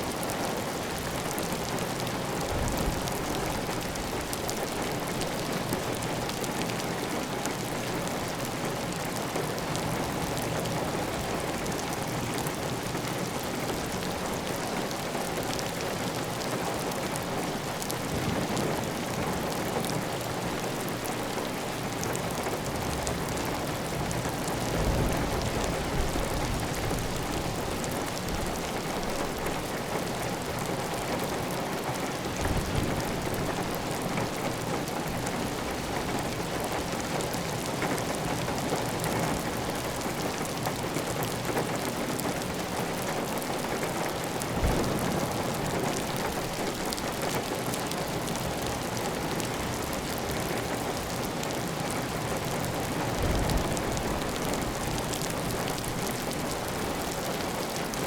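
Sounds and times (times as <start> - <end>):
heavy rain on a tile roof: 0.0 - 58.0.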